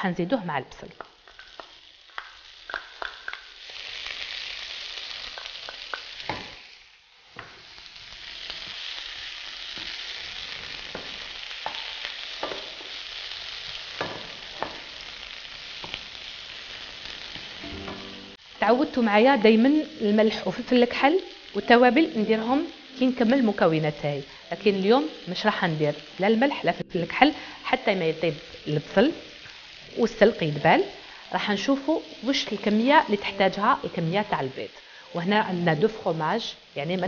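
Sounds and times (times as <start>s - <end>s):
leaves sizzling in frying pan: 0.0s - 37.0s.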